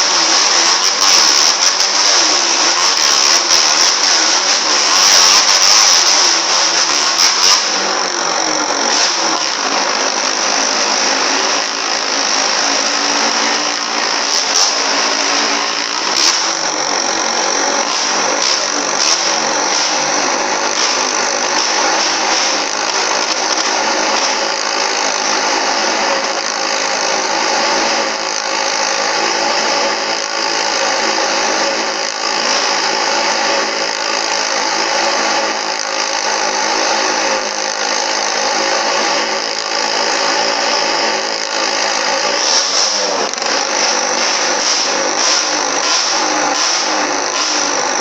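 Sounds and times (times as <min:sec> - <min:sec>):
motorcycle engine running steadily: 0:00.0 - 0:48.0.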